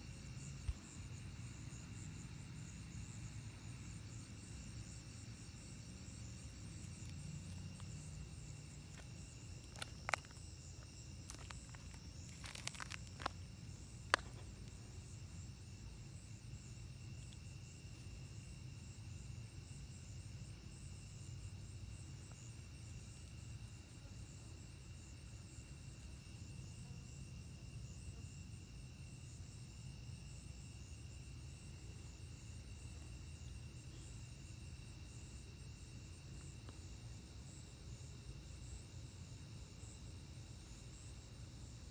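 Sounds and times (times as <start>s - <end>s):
crickets and insects trilling: 0.0s - 41.9s.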